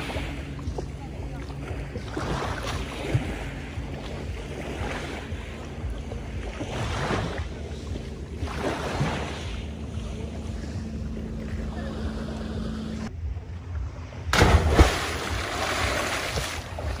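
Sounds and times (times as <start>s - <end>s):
waves lapping against concrete: 0.0s - 13.1s, 14.2s - 17.0s.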